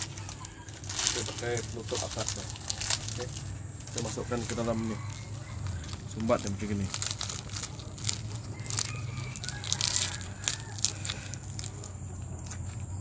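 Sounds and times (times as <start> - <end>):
leaves crinkling and crunching: 0.0 - 13.0.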